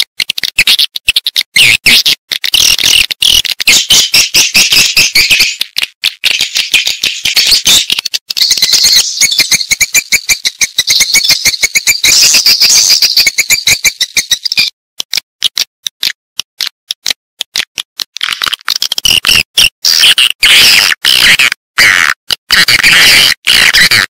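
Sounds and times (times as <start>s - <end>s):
swiftlets chirping and clicking: 0.1s - 20.6s.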